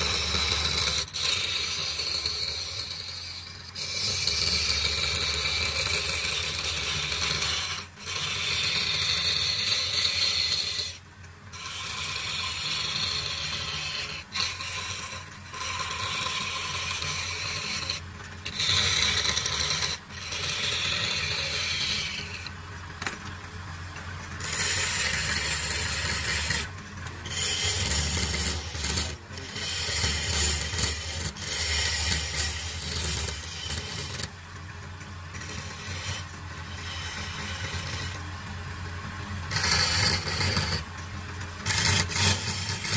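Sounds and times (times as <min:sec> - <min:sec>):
chisel scraping wood on lathe: 0:00.0 - 0:23.3, 0:24.3 - 0:34.4, 0:35.0 - 0:41.0, 0:41.6 - 0:42.9
lathe humming: 0:00.0 - 0:42.9.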